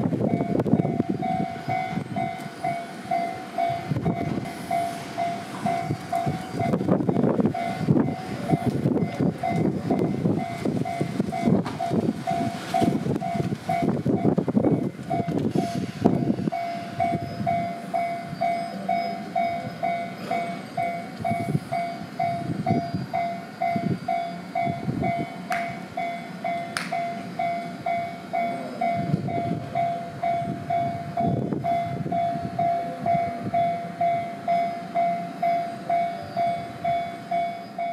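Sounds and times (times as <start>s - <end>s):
train wheels rumbling: 0.0s - 37.9s
level-crossing bell ringing: 0.3s - 37.9s.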